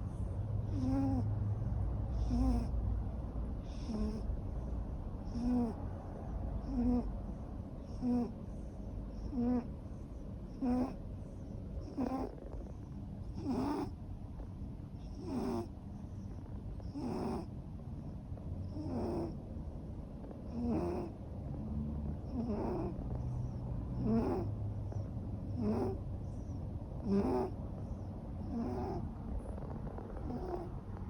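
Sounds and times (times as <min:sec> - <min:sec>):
cat snoring: 0:00.0 - 0:01.3, 0:02.1 - 0:02.8, 0:03.6 - 0:05.9, 0:06.6 - 0:31.0.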